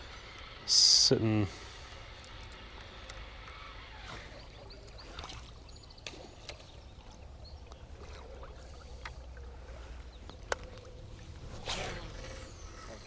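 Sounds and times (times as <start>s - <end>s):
water lapping around boat: 1.5s - 13.0s.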